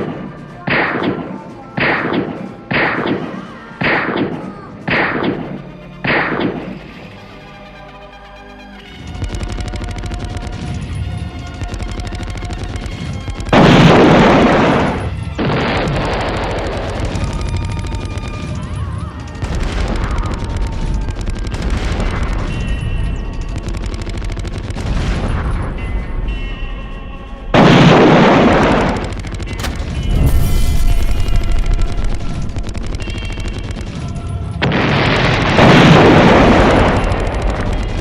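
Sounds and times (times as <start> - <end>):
gunshots: 0.0 - 7.1, 9.0 - 26.5, 27.6 - 38.0.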